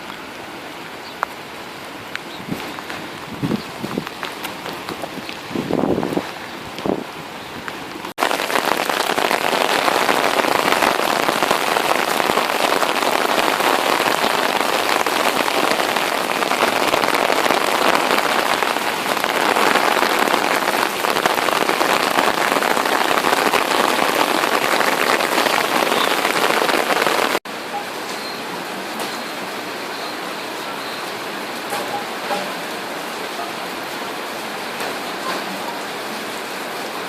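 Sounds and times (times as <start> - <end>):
rain hitting surfaces: 0.0 - 37.0.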